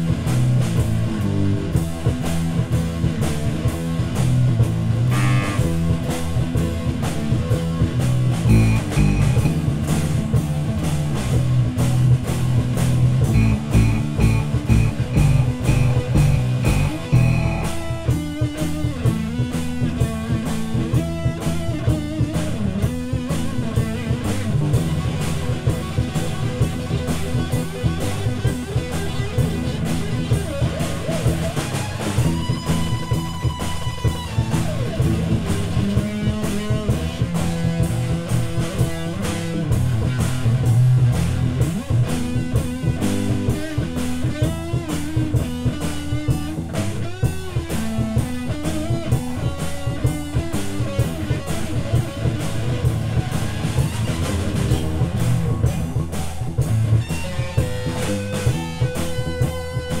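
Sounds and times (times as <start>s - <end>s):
drum kit beat: 0.0s - 60.0s
electric guitars playing: 0.0s - 60.0s.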